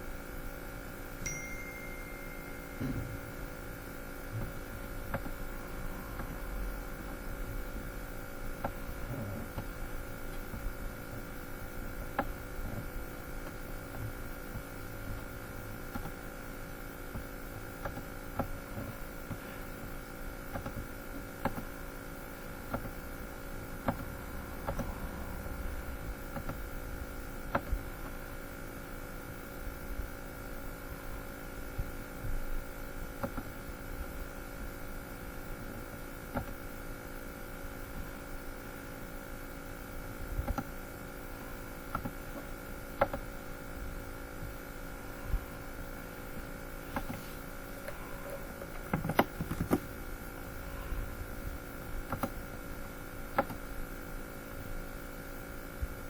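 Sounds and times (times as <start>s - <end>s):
electrical hum with tones: 0.0s - 56.0s.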